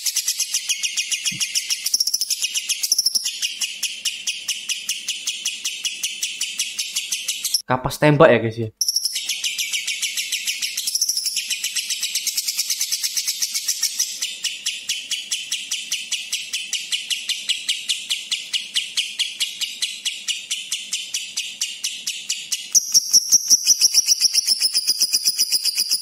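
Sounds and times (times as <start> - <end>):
bird chattering song: 0.0 - 7.7, 8.8 - 26.0.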